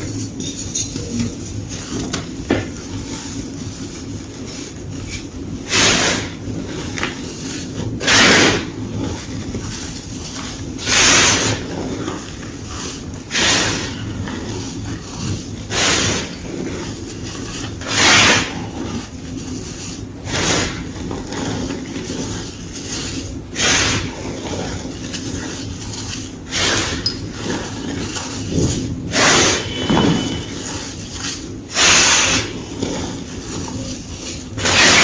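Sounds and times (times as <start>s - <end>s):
chalk block crunching: 1.8s - 35.0s.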